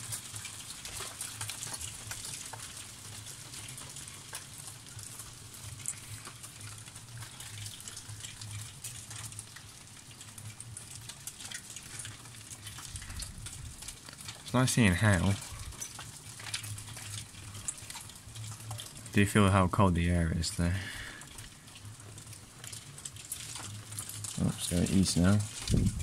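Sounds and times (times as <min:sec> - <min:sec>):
hail pattering on surfaces: 0:00.0 - 0:26.0.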